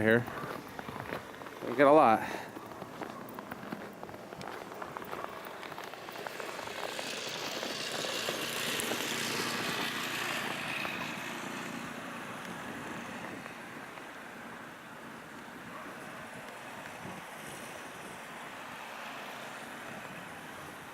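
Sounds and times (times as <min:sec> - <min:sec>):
vehicle passing: 0:00.0 - 0:20.9.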